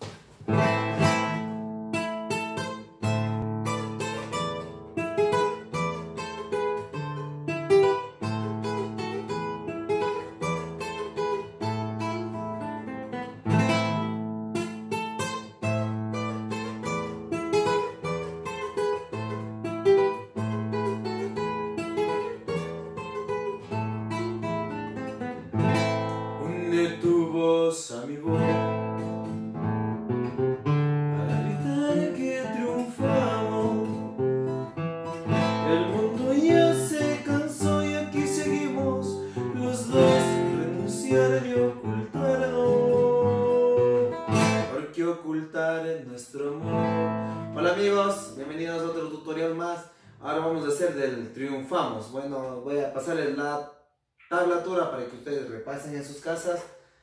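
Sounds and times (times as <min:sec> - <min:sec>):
classical guitar fingerstyle: 0:00.0 - 0:50.8.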